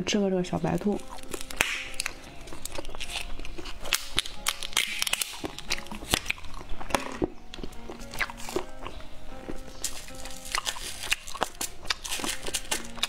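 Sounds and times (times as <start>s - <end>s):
candy crunching and chewing: 0.6s - 13.0s.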